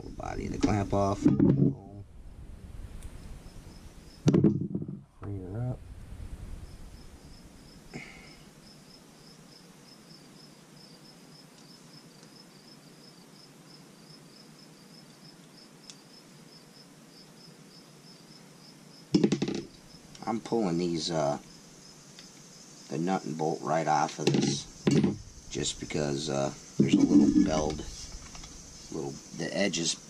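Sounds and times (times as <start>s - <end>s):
cricket chirping: 2.9s - 5.0s, 5.6s - 30.0s.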